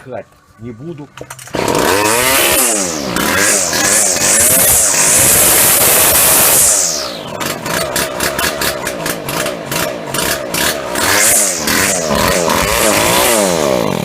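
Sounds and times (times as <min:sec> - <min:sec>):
grass trimmer engine revving: 0:01.2 - 0:14.0.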